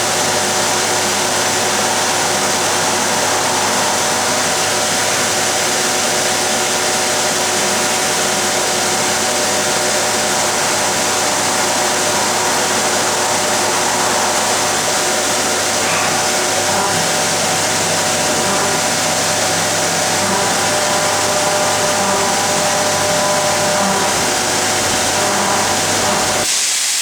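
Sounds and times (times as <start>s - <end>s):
machining centre whir: 0.0s - 26.5s
steady machine tones: 0.0s - 26.5s
hiss: 0.0s - 27.0s.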